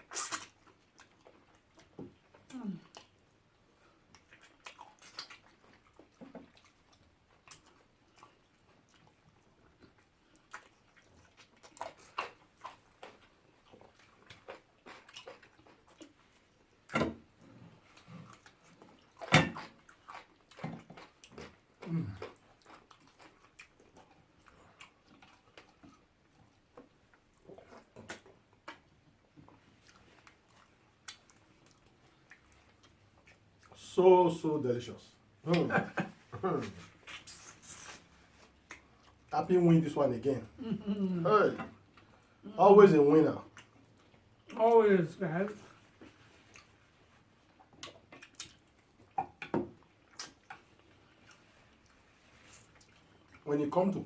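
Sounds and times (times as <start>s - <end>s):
mouth chewing and slurping: 0.0s - 3.2s, 4.0s - 16.7s, 17.4s - 33.8s, 36.0s - 39.3s, 45.7s - 53.4s.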